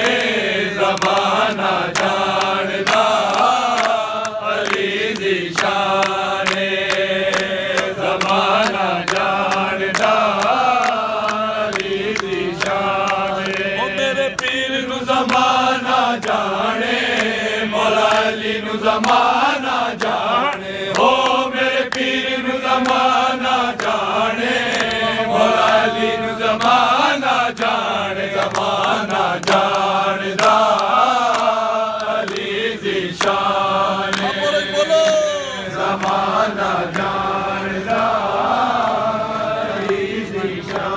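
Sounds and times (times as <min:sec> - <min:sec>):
men singing a devotional chant: 0:00.0 - 0:40.9.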